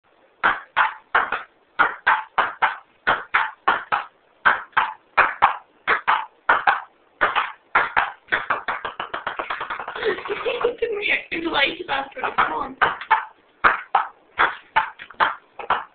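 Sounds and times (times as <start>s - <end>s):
ping-pong ball bouncing and struck: 0.4s - 9.9s, 12.4s - 15.9s.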